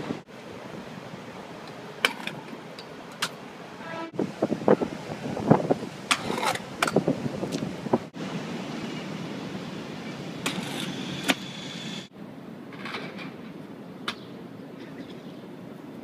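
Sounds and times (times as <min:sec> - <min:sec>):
city traffic: 0:00.0 - 0:16.0.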